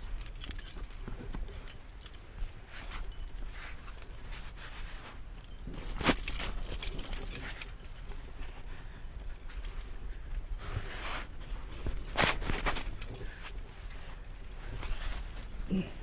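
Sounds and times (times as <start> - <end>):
carabiners clinking: 0.0 - 16.0
jacket rustling against rock: 0.0 - 16.0.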